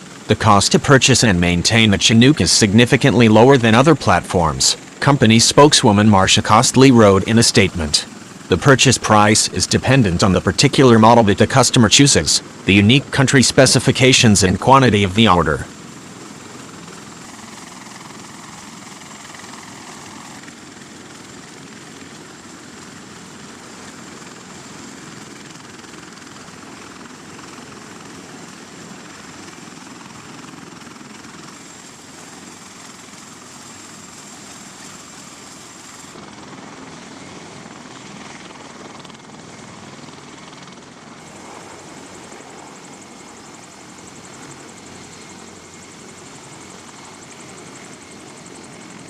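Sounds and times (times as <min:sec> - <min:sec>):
helicopter rotor and engine: 0:00.0 - 0:49.0.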